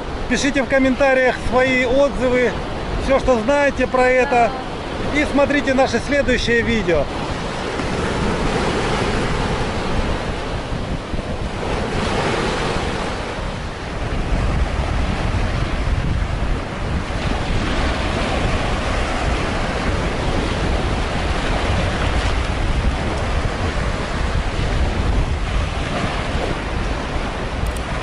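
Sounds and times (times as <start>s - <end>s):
surf breaking on sandy shore: 0.0s - 28.0s
wind buffeting microphone: 0.0s - 28.0s.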